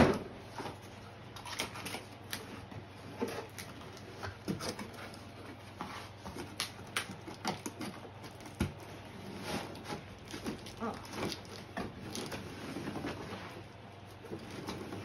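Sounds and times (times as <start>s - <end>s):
cardboard packaging rustling: 1.4s - 15.0s.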